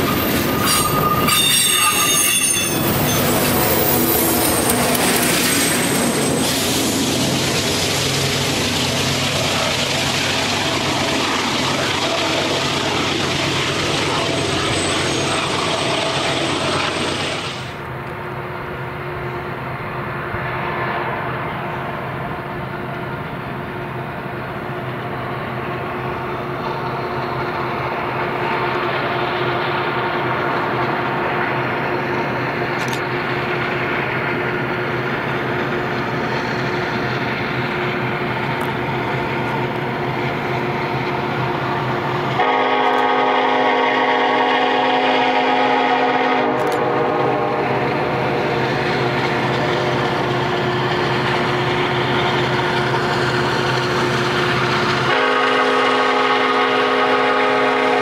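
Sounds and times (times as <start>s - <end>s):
distant locomotive engine drone: 0.0s - 58.0s.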